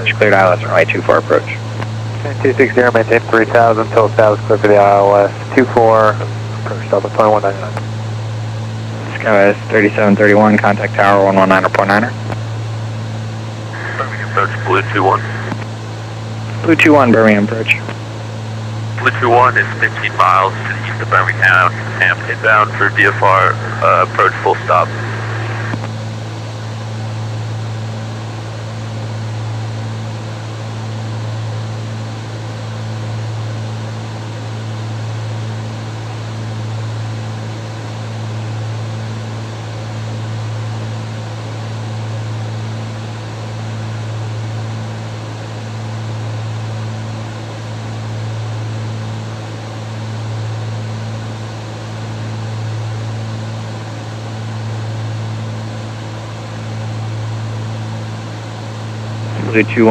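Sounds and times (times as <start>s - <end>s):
propeller plane engines droning: 0.0s - 59.9s.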